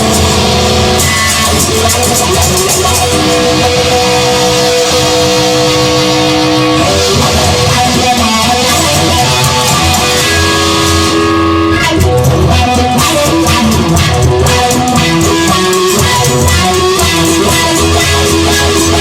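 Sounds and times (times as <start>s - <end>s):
instrumental rock music: 0.0s - 19.0s.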